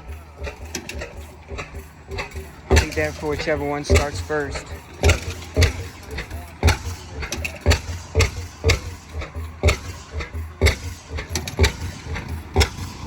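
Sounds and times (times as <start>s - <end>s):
gas engine chugging: 0.0s - 13.0s.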